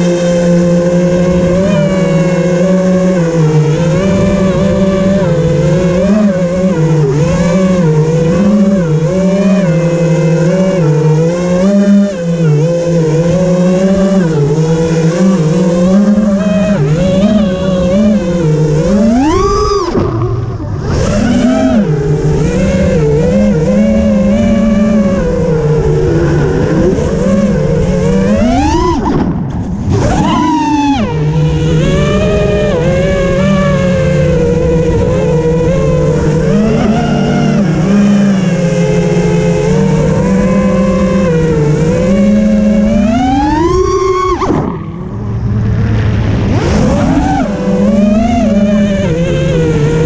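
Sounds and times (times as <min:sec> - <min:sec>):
motor running: 0:00.0 - 0:50.0.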